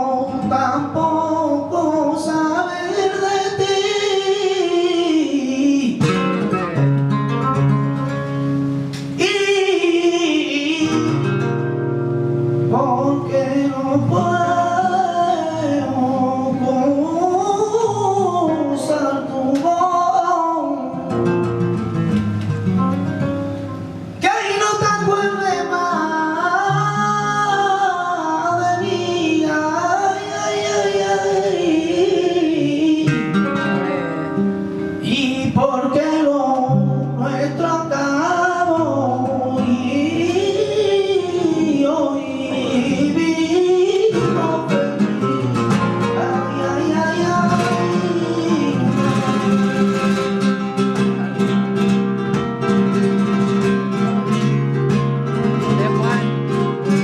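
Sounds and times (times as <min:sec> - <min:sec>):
man singing: 0:00.0 - 0:06.8, 0:09.0 - 0:11.8, 0:12.6 - 0:21.6, 0:24.2 - 0:57.0
flamenco guitar: 0:00.0 - 0:57.0.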